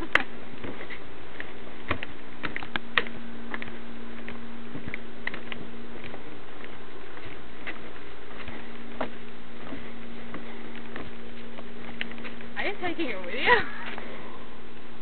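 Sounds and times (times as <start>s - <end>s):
footsteps on wooden boardwalk: 0.0s - 14.4s
steady low hum: 0.0s - 15.0s.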